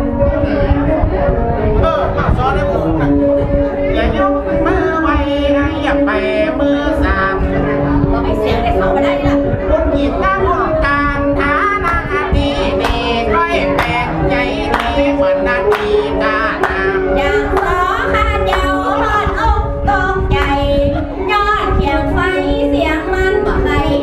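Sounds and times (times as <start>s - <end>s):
person singing folk melody: 3.0s - 24.0s.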